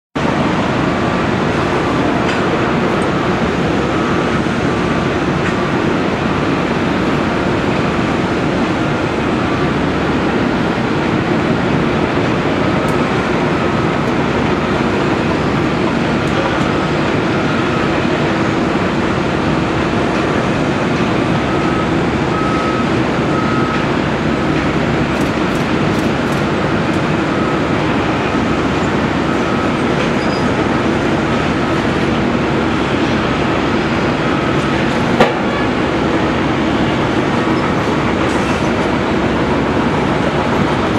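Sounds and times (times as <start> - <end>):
excavator digging: 0.2 - 40.9.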